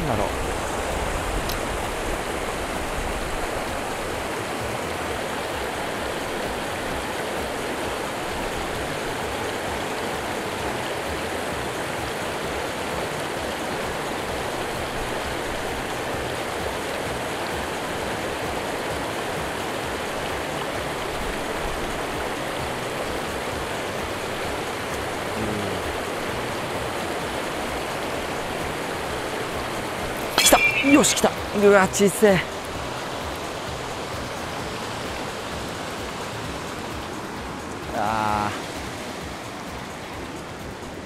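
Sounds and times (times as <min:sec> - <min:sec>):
mountain stream flowing: 0:00.0 - 0:41.0.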